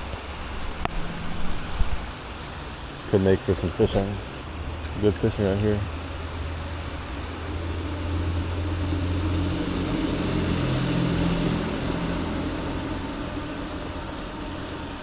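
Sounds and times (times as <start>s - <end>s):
low engine drone: 0.0s - 15.0s
waterfall rushing: 0.0s - 15.0s.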